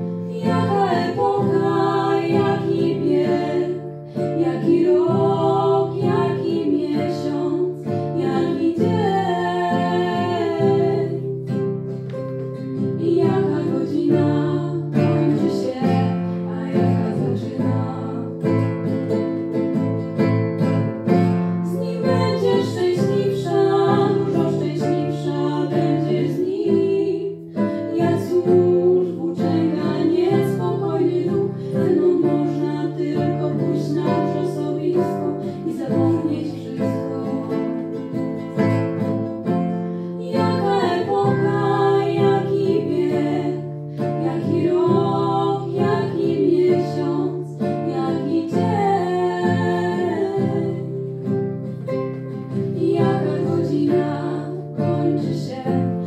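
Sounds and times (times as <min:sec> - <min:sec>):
plucked guitar accompaniment: 0:00.0 - 0:56.0.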